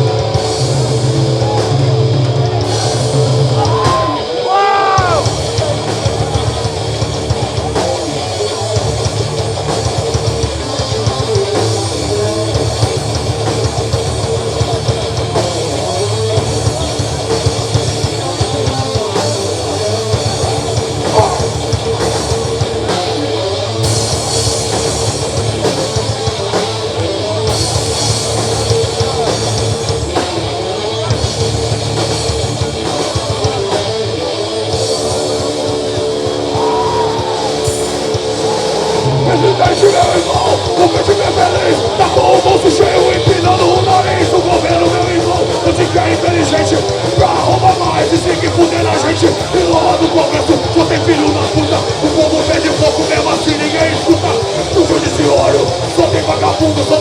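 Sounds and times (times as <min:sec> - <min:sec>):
drum kit: 0:00.0 - 0:57.0
guitar: 0:00.0 - 0:57.0.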